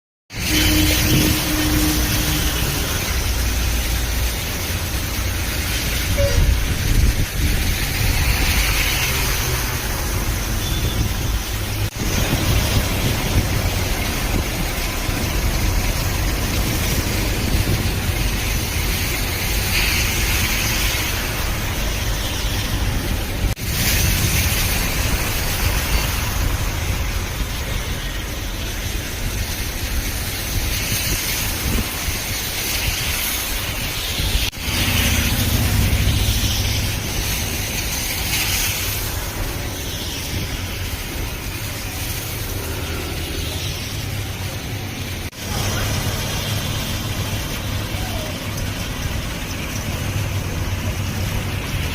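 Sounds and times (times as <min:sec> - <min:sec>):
road traffic noise: 0:00.3 - 0:51.9.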